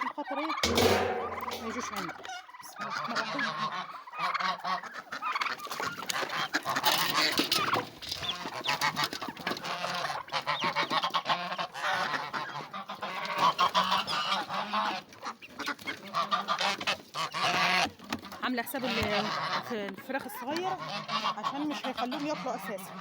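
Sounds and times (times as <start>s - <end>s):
chickens and poultry calling: 0.0s - 23.0s
geese honking: 0.0s - 23.0s.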